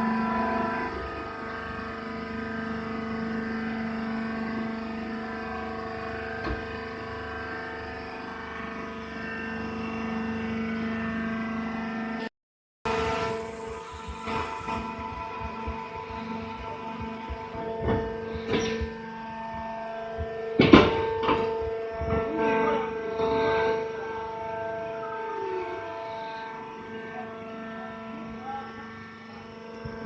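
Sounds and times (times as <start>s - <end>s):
baler hydraulic pump humming: 0.0s - 12.3s, 12.9s - 30.0s.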